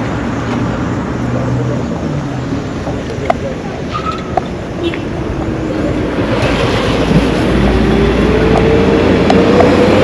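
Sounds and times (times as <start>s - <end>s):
road noise rumble: 0.0s - 10.0s.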